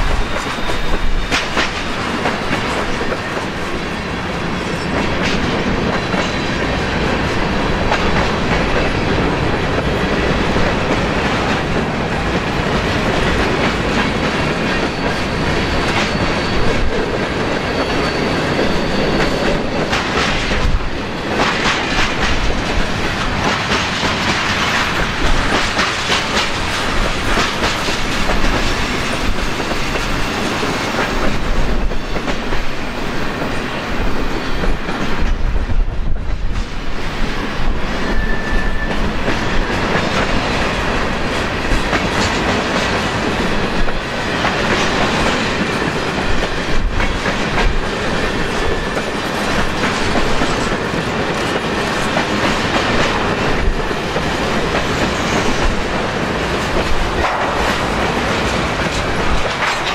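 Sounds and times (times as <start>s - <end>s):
freight train wheels clacking: 0.0s - 59.9s
train rumble: 0.0s - 59.9s
wind buffeting microphone: 0.0s - 59.9s.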